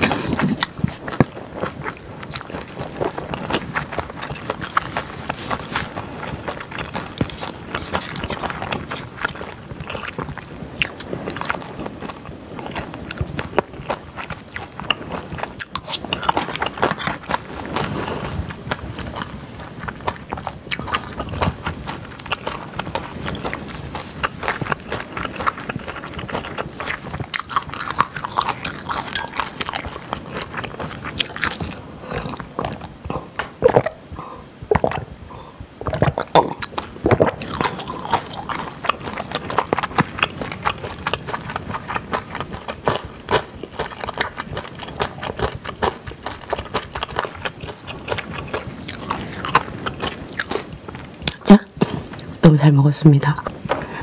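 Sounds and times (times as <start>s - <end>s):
chewing food: 0.0s - 34.0s, 34.7s - 54.0s.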